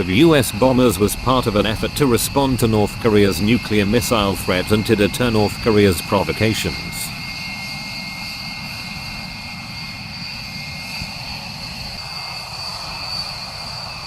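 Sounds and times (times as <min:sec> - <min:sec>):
jet engines roaring and whining: 0:00.0 - 0:14.0.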